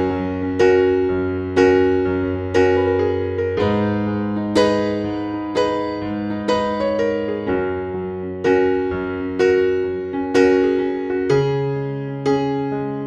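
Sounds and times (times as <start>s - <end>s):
slow piano piece: 0.0s - 13.0s.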